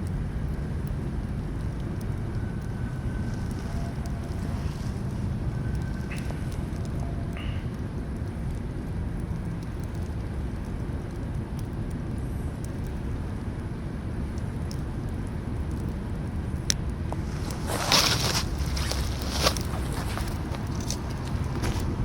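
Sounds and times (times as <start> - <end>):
campfire crackling: 0.0 - 22.0
fire snap: 0.0 - 22.0
steady low rumble: 0.0 - 22.0.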